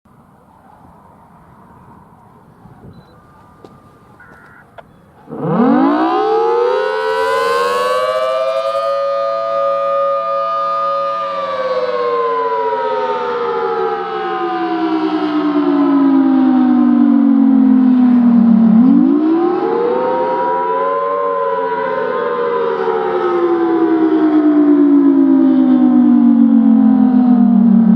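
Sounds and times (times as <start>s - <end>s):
storm warning siren wailing: 0.1s - 27.9s.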